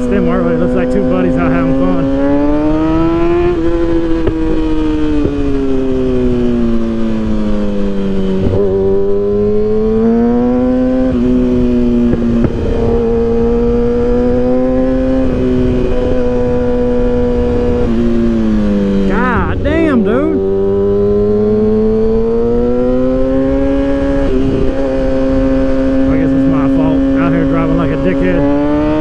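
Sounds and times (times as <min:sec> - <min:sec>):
motorcycle engine: 0:00.0 - 0:29.0
wind noise: 0:00.0 - 0:29.0.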